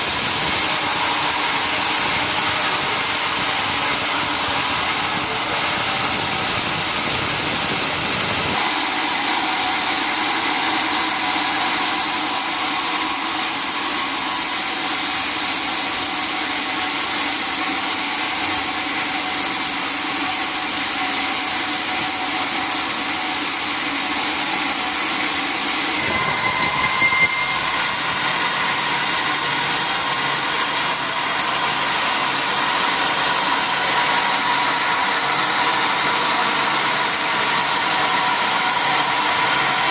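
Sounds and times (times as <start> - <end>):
high machine whine: 0.0 - 39.9
sawmill machinery running: 0.0 - 39.9.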